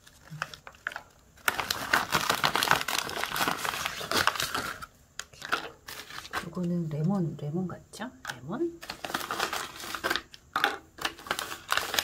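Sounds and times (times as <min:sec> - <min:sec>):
paper packet crinkling: 0:00.0 - 0:06.8, 0:08.8 - 0:12.0.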